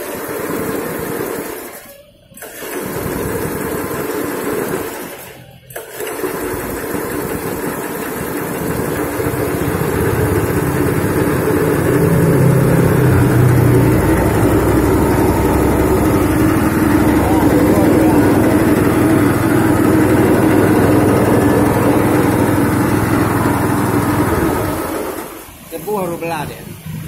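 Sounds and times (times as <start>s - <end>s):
small petrol engine running: 0.0s - 25.8s.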